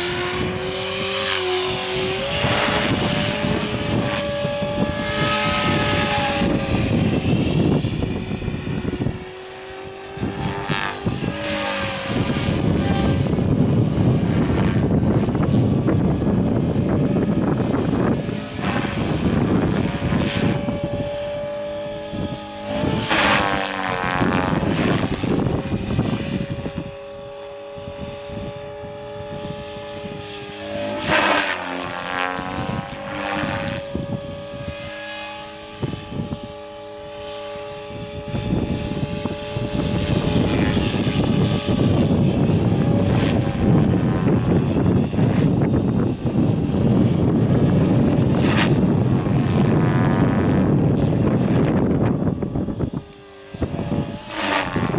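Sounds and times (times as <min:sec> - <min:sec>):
rc helicopter whine: 0:00.0 - 0:54.9
wind buffeting microphone: 0:00.0 - 0:54.9.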